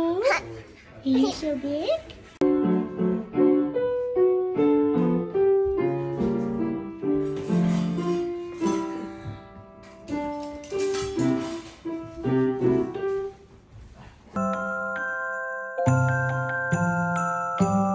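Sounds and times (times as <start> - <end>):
slow piano tune: 2.4 - 13.7, 14.3 - 17.9.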